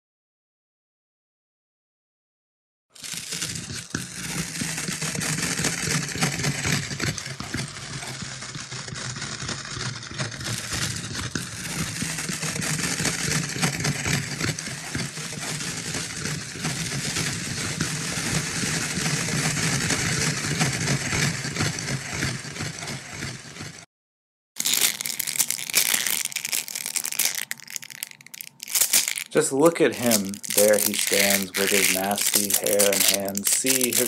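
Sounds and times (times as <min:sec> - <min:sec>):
dense crackling rustling noise: 0:03.0 - 0:23.8, 0:24.6 - 0:34.0.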